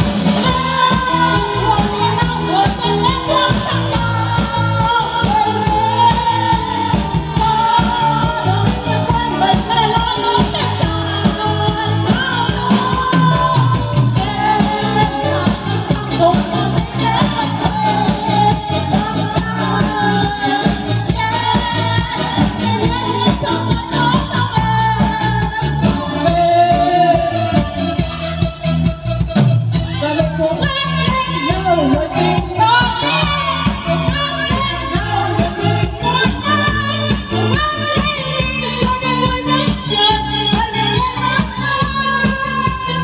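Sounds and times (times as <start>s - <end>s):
woman singing into microphone: 0.0s - 43.0s.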